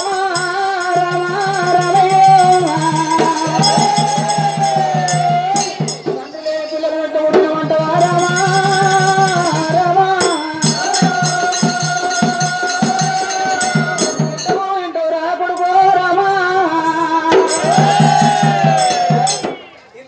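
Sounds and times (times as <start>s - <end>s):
fast drum beat: 0.0s - 14.7s, 17.3s - 19.9s
folk ballad singing: 0.0s - 19.6s
jingling percussion: 0.0s - 20.0s.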